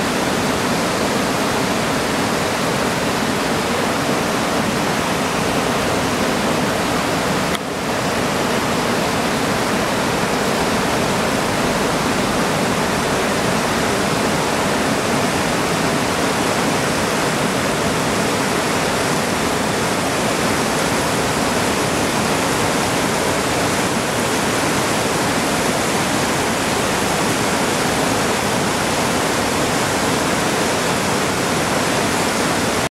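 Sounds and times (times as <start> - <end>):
water rushing over rocks: 0.0 - 32.9.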